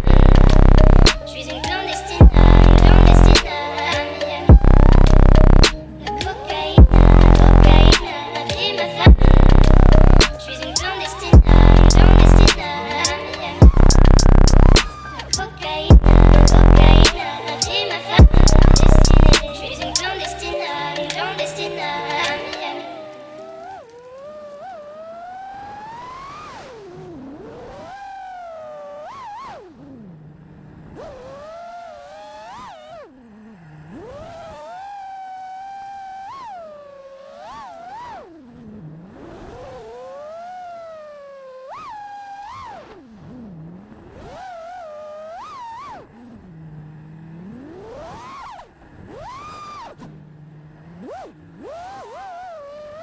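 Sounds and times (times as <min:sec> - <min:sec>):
quadcopter motors whining: 0:00.0 - 0:53.0.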